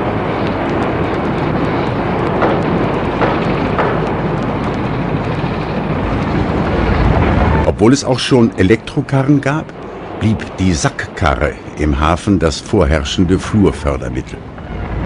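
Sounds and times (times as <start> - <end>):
working machinery and traffic: 0.0 - 15.0.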